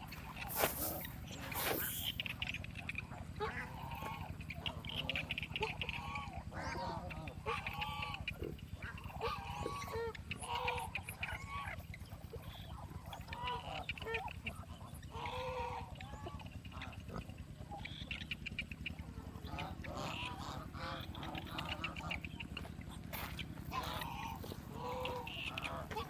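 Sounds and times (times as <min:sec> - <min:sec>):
ducks calling: 0:00.0 - 0:26.0
geese honking: 0:00.0 - 0:26.0.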